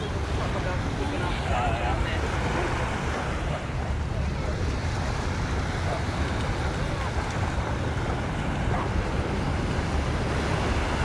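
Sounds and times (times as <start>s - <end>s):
small waves breaking: 0.0s - 11.0s.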